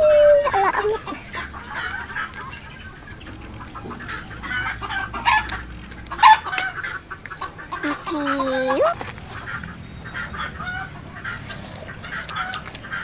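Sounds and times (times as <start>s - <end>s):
chickens clucking: 0.0s - 13.0s
chicken drawn-out call: 0.1s - 13.0s.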